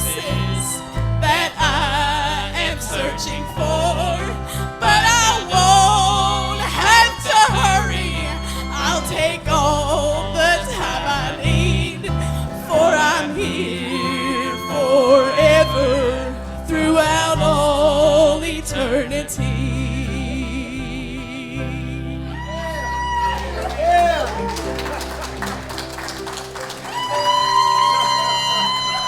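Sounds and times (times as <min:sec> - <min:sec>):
gospel melody with vibrato: 0:00.0 - 0:29.0
sustained bass notes: 0:00.0 - 0:29.0.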